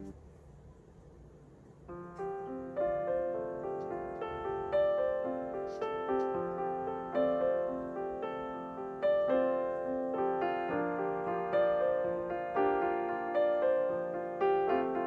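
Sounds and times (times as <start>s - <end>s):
soft piano melody: 1.6s - 15.0s.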